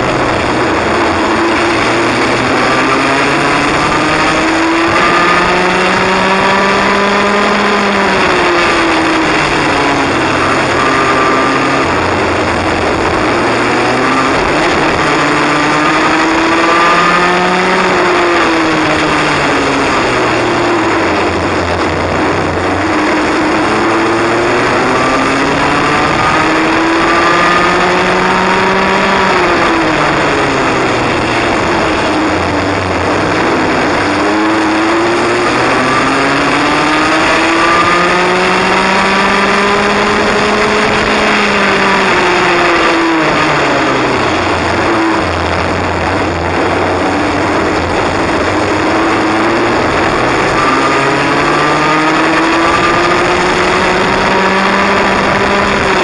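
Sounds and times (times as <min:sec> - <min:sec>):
kart engine accelerating and slowing: 0:00.0 - 0:56.0
steady rush of noise: 0:00.0 - 0:56.0.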